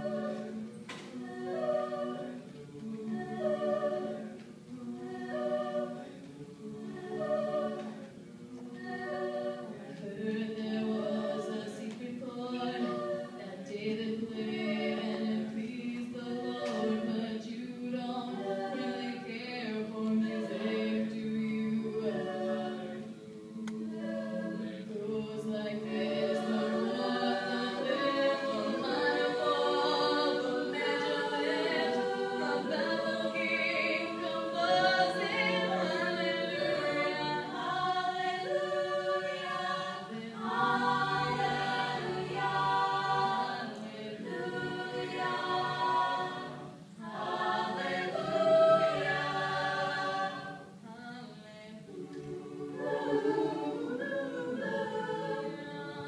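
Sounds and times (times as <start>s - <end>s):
choir holding backing chords: 0.0s - 56.0s.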